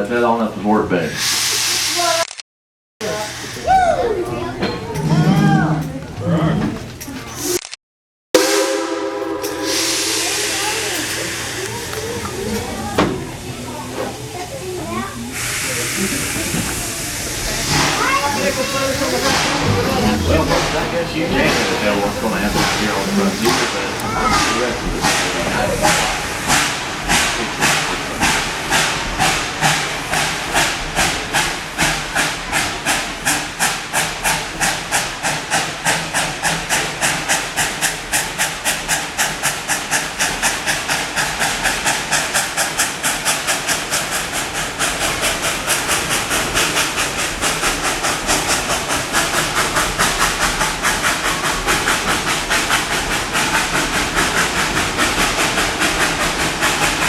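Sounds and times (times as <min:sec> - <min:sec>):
steam locomotive chuffing: 0:00.0 - 0:02.4, 0:03.0 - 0:07.7, 0:08.4 - 0:57.0.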